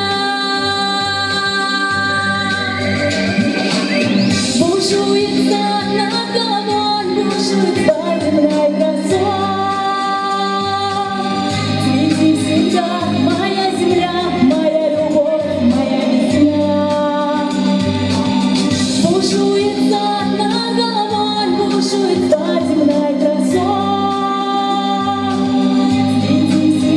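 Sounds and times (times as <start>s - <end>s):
woman singing: 0.0s - 3.4s, 4.4s - 26.9s
instrumental accompaniment: 0.0s - 26.9s.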